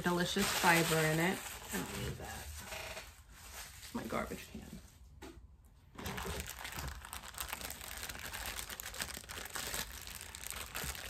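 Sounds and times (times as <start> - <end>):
packaging crinkling and rustling: 0.0 - 4.2, 5.9 - 11.0.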